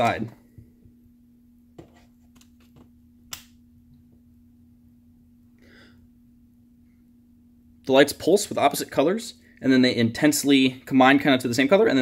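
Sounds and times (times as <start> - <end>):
faint steady low hum: 0.0 - 12.0.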